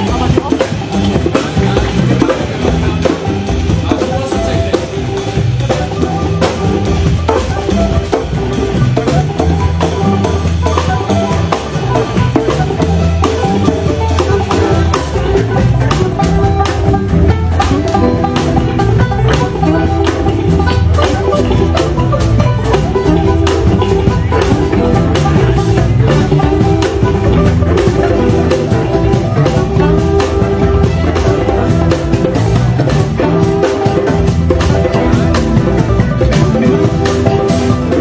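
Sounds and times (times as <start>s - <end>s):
bass line: 0.0s - 38.0s
drum kit beat: 0.0s - 38.0s
repeating pitched instrument figures: 0.0s - 38.0s.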